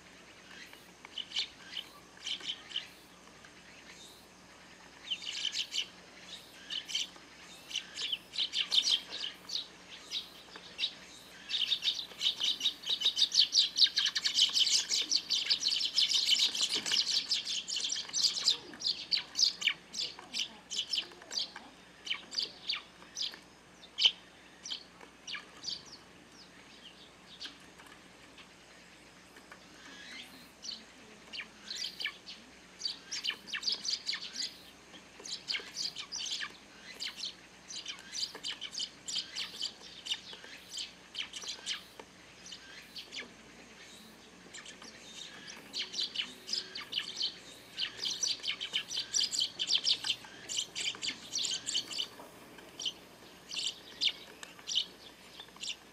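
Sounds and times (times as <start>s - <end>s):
sparrows chirping: 0.0s - 55.9s.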